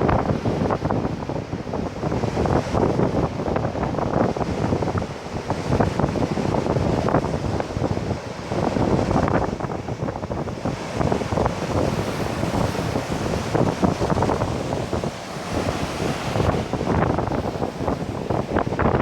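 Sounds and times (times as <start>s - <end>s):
surf crashing on beach: 0.0s - 19.0s
wind buffeting microphone: 0.0s - 19.0s.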